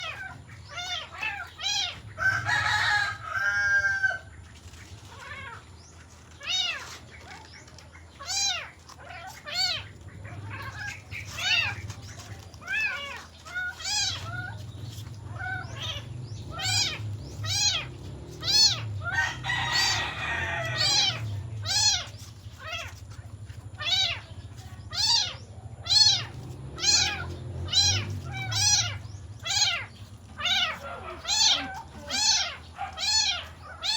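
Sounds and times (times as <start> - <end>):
cat meowing: 0.0 - 2.4, 8.2 - 23.0, 23.7 - 33.9.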